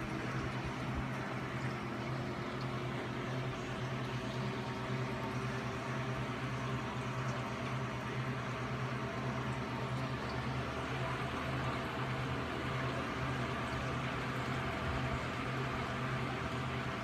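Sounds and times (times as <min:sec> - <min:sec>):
aquarium pump hum: 0:00.0 - 0:17.0
circulating water rushing: 0:00.0 - 0:17.0.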